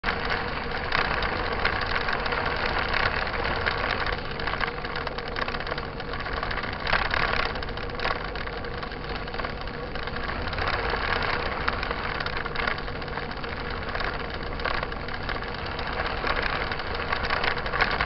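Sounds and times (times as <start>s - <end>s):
bike rattling and clicking: 0.0s - 18.0s
wind: 0.0s - 18.0s
bike tyres rumbling on dirt: 0.1s - 18.0s.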